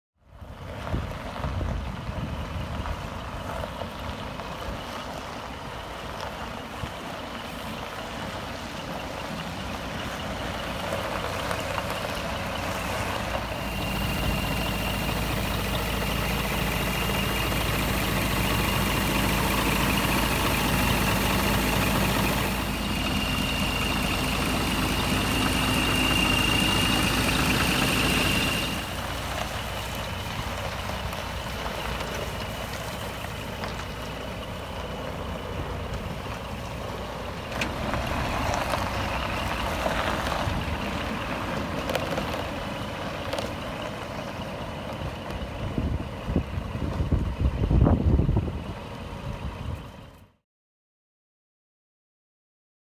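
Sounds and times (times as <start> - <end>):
diesel truck engine idling: 0.2 - 50.4.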